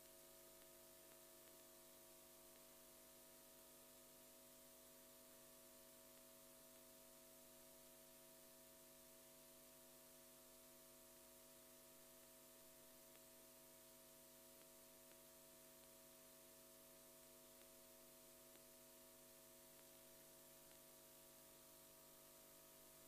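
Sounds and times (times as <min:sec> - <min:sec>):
faint hum with hiss: 0:00.0 - 0:23.0.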